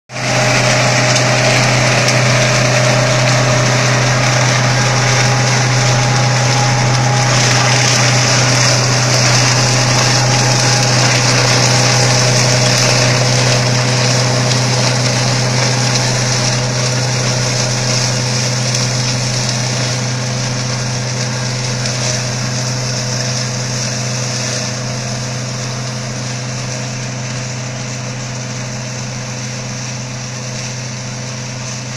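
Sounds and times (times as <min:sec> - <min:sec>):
rotary brush cutter whirring: 0:00.1 - 0:31.9
tractor engine running: 0:00.1 - 0:31.9.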